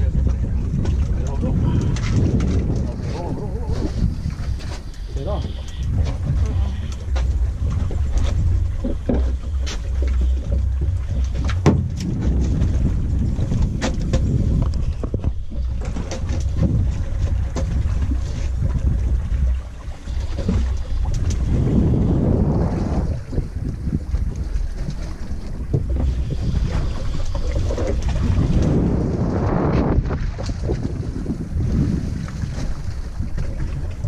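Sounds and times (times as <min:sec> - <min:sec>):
boat engine low rumble: 0:00.0 - 0:34.0
knocks and clicks from boat: 0:00.0 - 0:34.0
wind buffeting microphone: 0:00.0 - 0:34.0.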